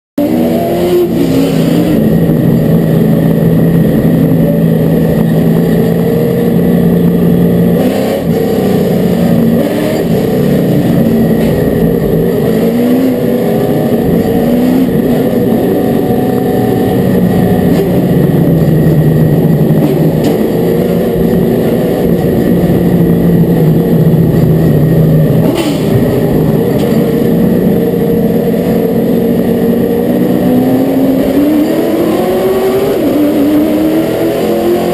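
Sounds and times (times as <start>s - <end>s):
race car engine accelerating: 0.2s - 34.9s.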